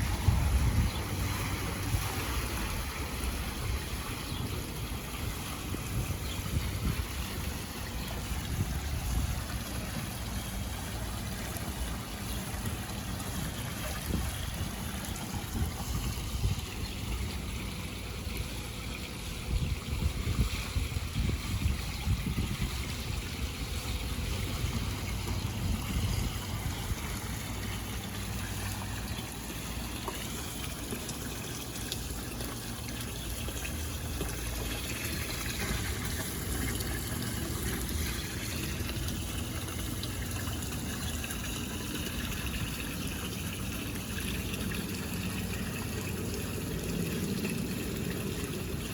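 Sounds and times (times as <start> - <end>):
water pouring into pool: 0.0 - 48.9.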